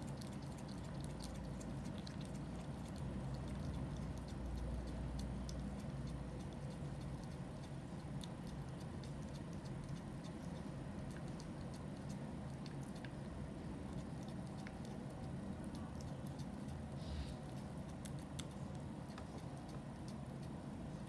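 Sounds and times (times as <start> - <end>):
cat lapping and chewing: 0.0 - 21.0
low background hum: 0.0 - 21.0.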